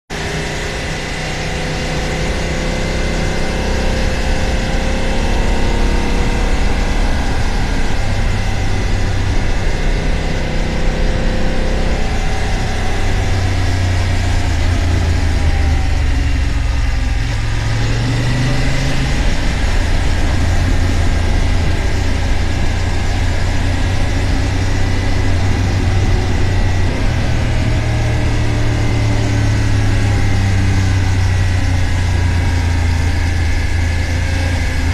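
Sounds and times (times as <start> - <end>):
motorcycle engine running: 0.1 - 34.9
wind noise: 0.2 - 34.9.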